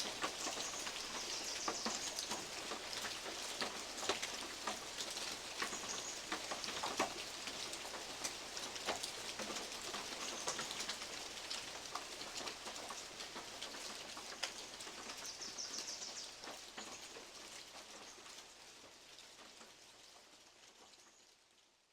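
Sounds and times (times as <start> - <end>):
rain hissing: 0.0 - 20.8.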